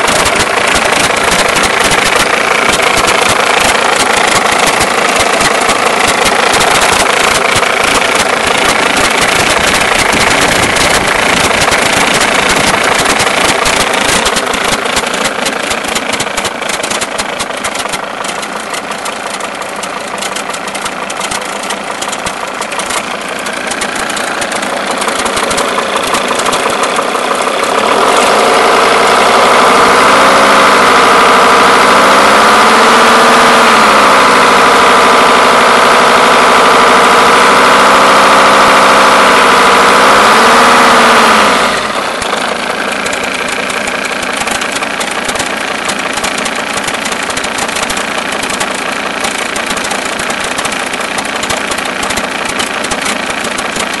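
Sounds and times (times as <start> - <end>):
diesel engine idling with knocking: 0.0 - 54.0.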